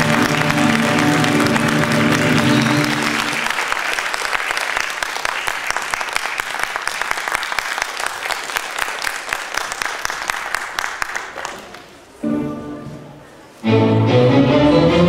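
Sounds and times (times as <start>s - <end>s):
audience clapping: 0.0s - 12.1s.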